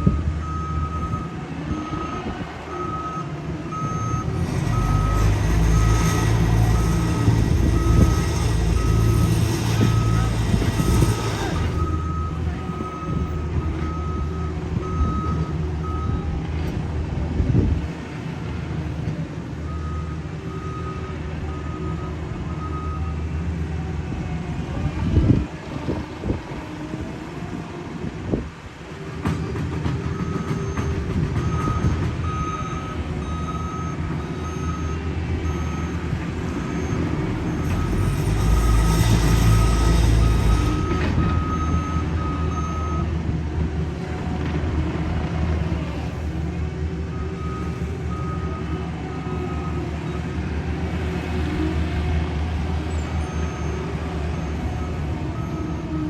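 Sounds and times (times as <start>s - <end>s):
diesel engines of paving machinery: 0.0s - 56.0s.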